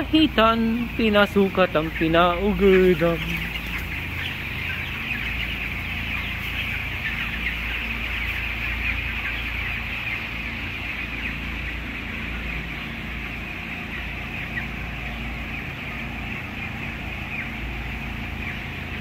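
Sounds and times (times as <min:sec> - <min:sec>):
chicks peeping and cheeping: 0:00.0 - 0:19.0
low fan hum: 0:00.0 - 0:19.0.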